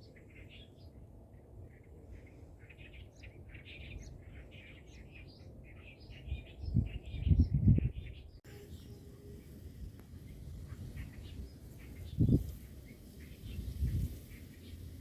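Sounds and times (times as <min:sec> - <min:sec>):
low outdoor background rumble: 0:00.0 - 0:15.0
small birds chirping: 0:00.0 - 0:15.0.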